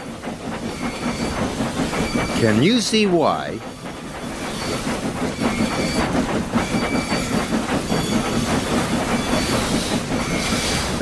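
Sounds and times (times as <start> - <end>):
steam hissing: 0.0 - 11.0
steam locomotive chuffing: 0.0 - 11.0.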